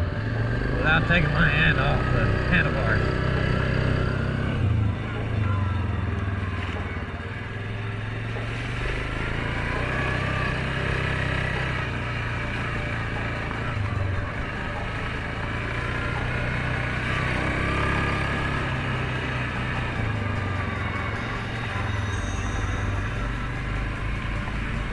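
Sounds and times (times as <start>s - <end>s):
atv engine running: 0.0s - 24.9s.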